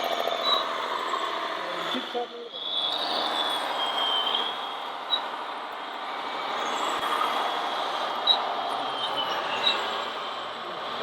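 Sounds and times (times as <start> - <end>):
high whine of small motors: 0.0 - 11.0.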